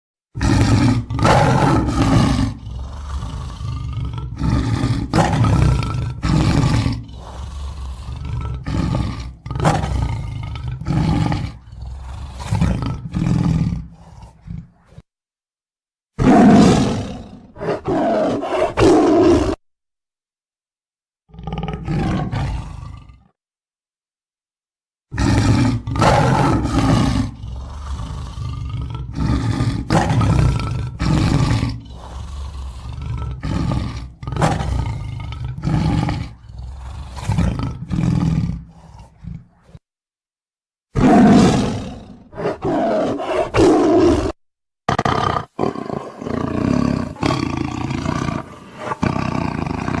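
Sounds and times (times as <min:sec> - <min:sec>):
tiger roaring and growling: 0:00.3 - 0:15.1, 0:16.2 - 0:19.6, 0:21.3 - 0:23.4, 0:25.1 - 0:39.8, 0:40.9 - 0:50.0.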